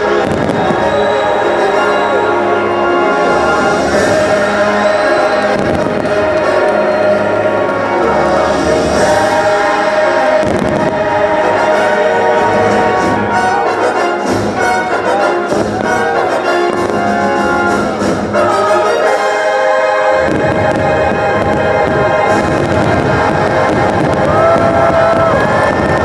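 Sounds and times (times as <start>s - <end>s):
orchestral music with choir: 0.0s - 26.0s.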